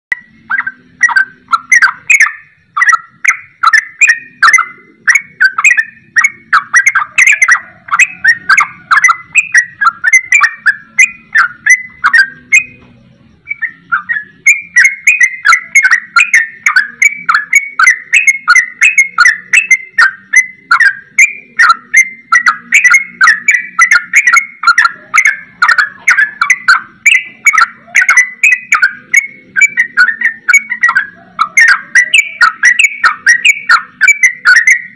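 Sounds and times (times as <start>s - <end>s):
bird singing chattering notes: 0.1s - 34.9s.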